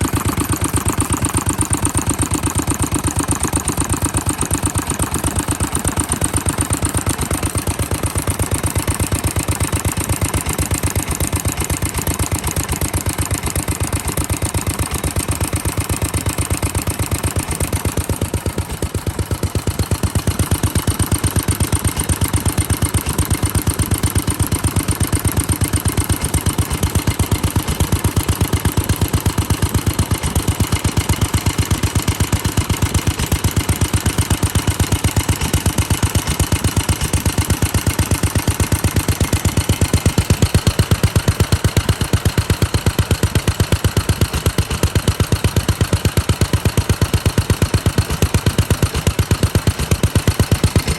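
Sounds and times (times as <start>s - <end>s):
stationary engine running: 0.0s - 50.9s.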